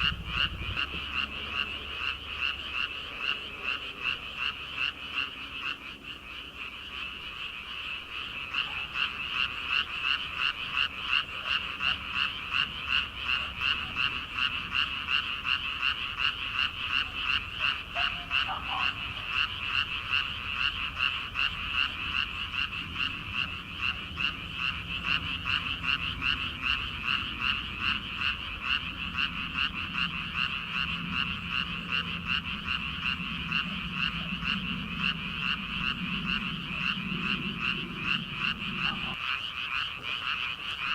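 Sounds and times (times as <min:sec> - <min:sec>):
frogs croaking in chorus: 0:00.0 - 0:40.9.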